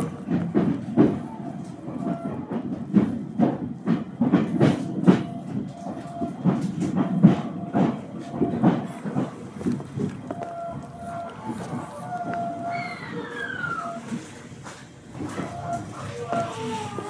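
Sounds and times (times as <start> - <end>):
steady train rumble: 0.0 - 17.0
train wheels clattering over rail joints: 0.0 - 17.0.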